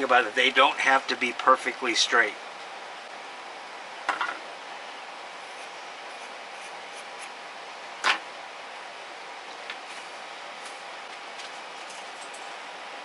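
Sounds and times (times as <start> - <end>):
faint hum: 0.0 - 13.0
steady background hiss: 0.0 - 13.0.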